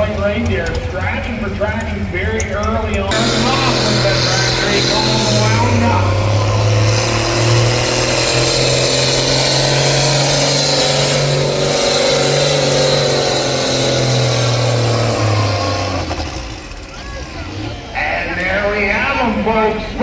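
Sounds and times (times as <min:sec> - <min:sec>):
tractor engine at full power: 0:00.0 - 0:20.0.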